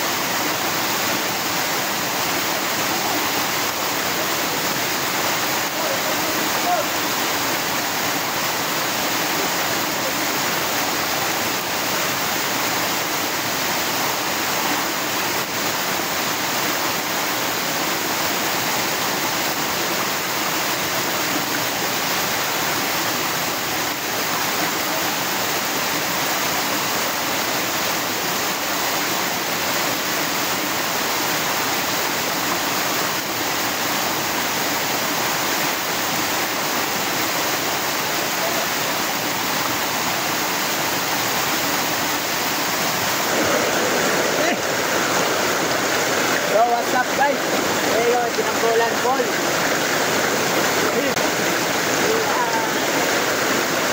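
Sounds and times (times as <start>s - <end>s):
stream waterfall over rocks: 0.0s - 53.9s.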